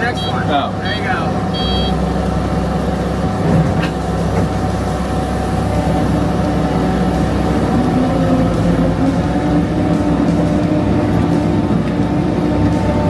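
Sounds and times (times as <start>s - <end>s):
loader engine running under load: 0.0s - 13.0s.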